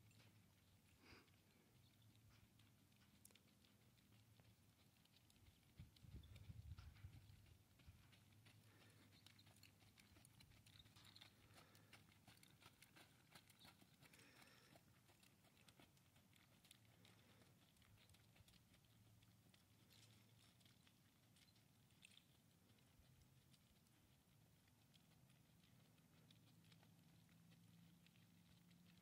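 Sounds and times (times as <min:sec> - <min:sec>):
hoofbeats on soft dirt: 0:00.0 - 0:29.0.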